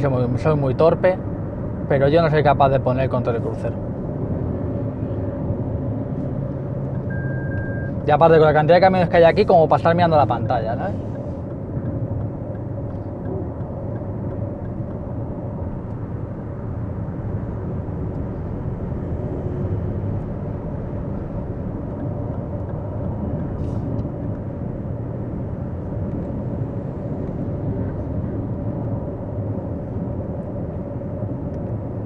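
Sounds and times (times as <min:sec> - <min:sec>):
road and tyre rumble: 0:00.0 - 0:32.0
wind noise inside car: 0:00.0 - 0:32.0.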